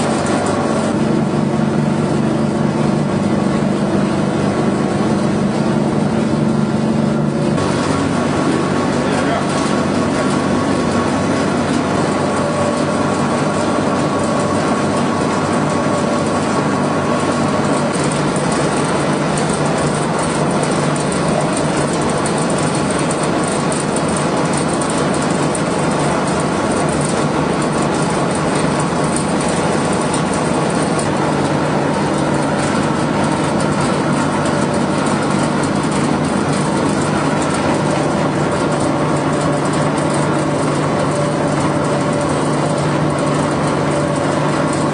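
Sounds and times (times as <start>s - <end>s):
pellet mill motor running: 0.0s - 44.9s.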